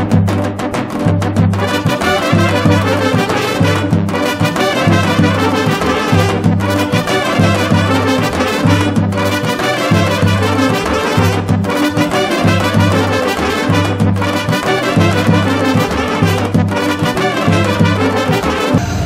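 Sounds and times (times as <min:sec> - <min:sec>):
bouncing bass beat: 0:00.0 - 0:19.0
lively brass music: 0:00.0 - 0:19.0.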